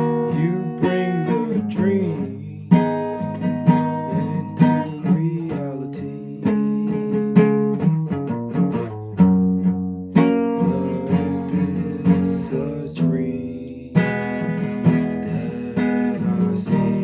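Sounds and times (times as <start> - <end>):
guitar chords: 0.0 - 17.0.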